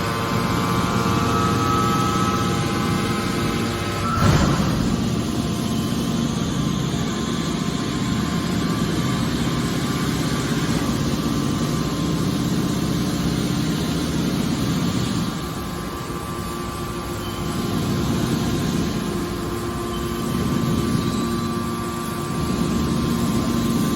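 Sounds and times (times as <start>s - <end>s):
hydraulic machine humming: 0.0s - 23.9s.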